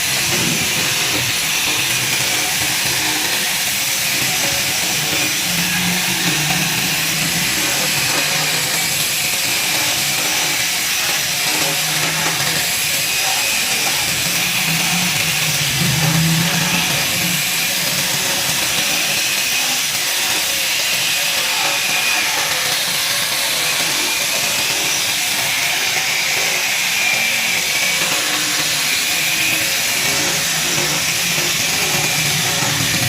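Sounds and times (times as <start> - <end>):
power tool running against wood: 0.0 - 33.0.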